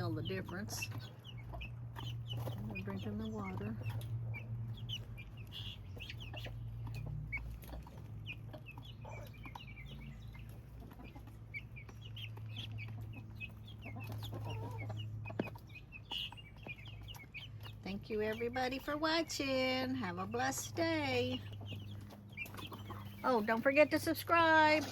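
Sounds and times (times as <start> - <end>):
chicks peeping: 0.0 - 24.9
hen clucking: 0.0 - 24.9.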